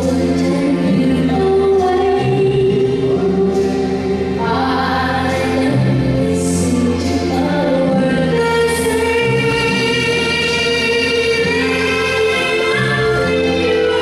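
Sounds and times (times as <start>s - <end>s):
music with singing voices: 0.0s - 14.0s.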